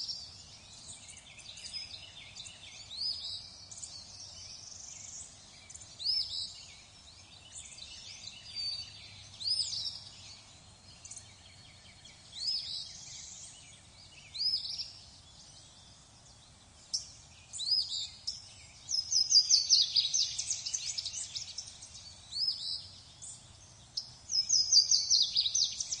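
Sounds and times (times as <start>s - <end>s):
faint background hiss: 0.0s - 26.0s
rapid bird chirps: 0.0s - 26.0s.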